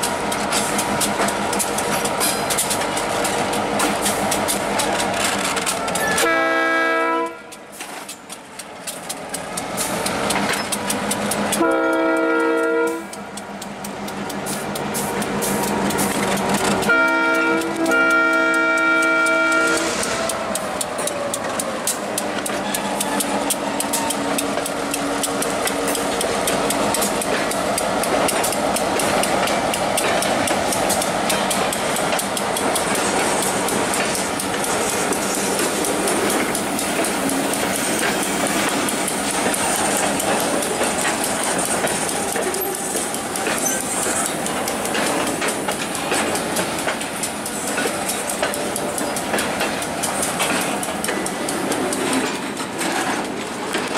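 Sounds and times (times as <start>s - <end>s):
train wheels rumbling on rail: 0.0s - 53.9s
wheels clicking over rail joints: 0.0s - 53.9s.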